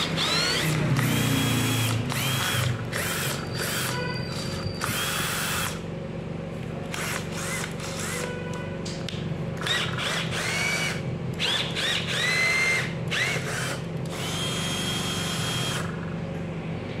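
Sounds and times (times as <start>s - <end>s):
cordless drill motor whining: 0.0s - 5.9s, 6.9s - 8.4s, 9.6s - 16.0s.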